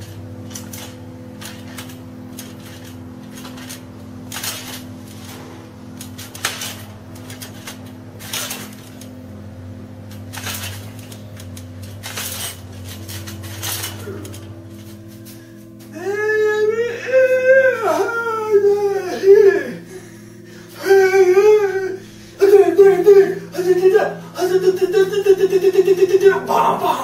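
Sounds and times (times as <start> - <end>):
singing bowls ringing: 0.0 - 27.0.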